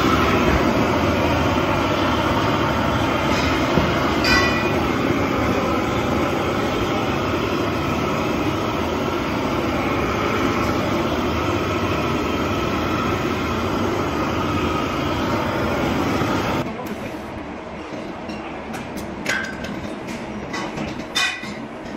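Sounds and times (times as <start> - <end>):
welding hiss and roar: 0.0 - 21.9.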